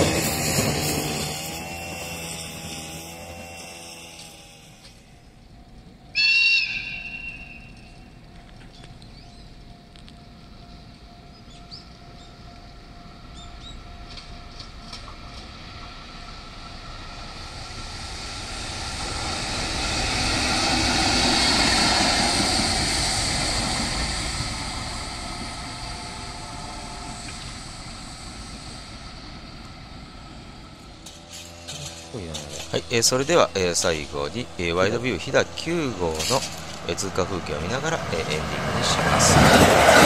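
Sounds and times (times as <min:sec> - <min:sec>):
locomotive wheels on rails: 0:00.0 - 0:40.0.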